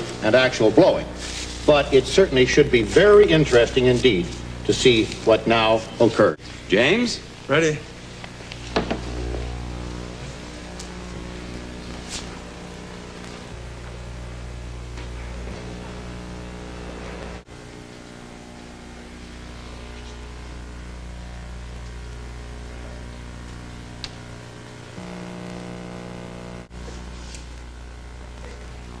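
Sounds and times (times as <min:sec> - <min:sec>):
electrical hum with hiss: 0:00.0 - 0:29.0.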